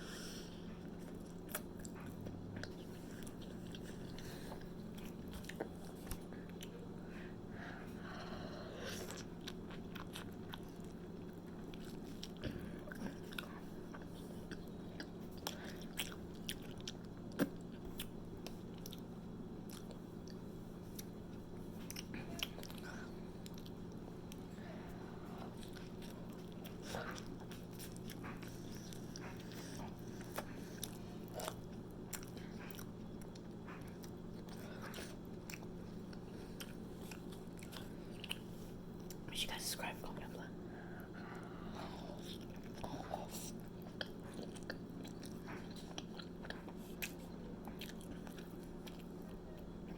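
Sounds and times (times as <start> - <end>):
steady low hum: 0.0 - 49.9
chewing and biting sandwich: 0.2 - 6.9, 8.0 - 39.3, 40.9 - 49.9.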